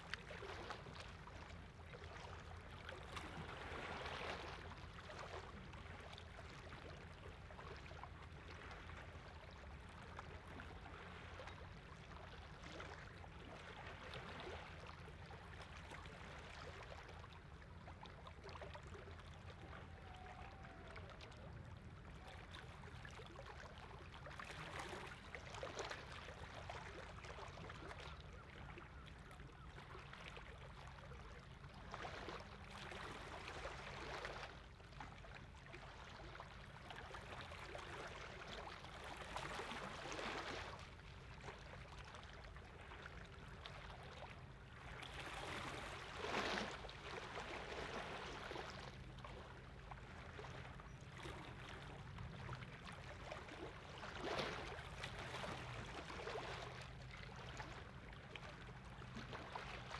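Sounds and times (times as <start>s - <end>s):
low hum of ship engines: 0.0s - 59.9s
small waves lapping on shore: 0.0s - 59.9s.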